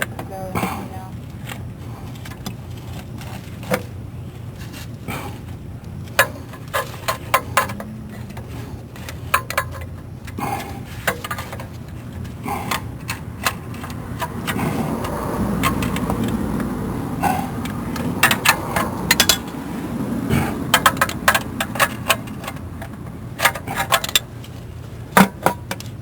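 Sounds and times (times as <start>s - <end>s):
rustling and scraping noise: 0.0s - 16.7s, 20.3s - 26.0s
steady low hum: 0.0s - 26.0s.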